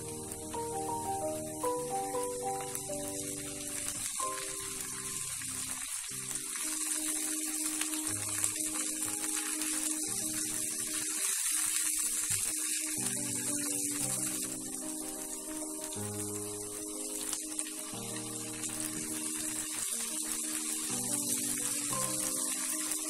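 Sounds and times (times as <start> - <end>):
soft background music: 0.0 - 23.0
vegetables sizzling in hot oil: 0.0 - 23.0.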